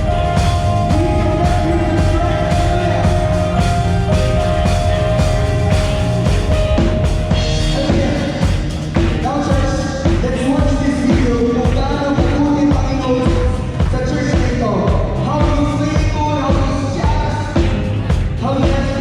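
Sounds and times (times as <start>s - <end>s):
person singing: 0.0s - 16.2s
bass: 0.0s - 19.0s
drum kit: 0.0s - 19.0s.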